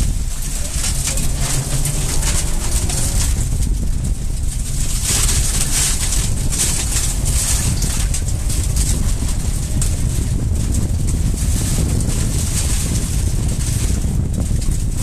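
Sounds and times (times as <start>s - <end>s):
gravel pinging against underbody: 0.0s - 15.0s
rally car engine running: 0.0s - 15.0s
tyre and wind noise: 0.0s - 15.0s.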